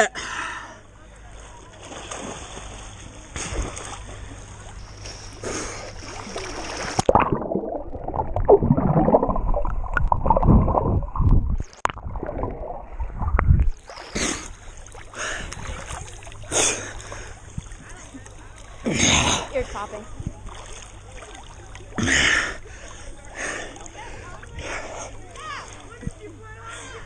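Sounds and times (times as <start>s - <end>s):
water sloshing and splashing: 1.2s - 27.0s
muffled underwater gurgling: 3.2s - 27.0s.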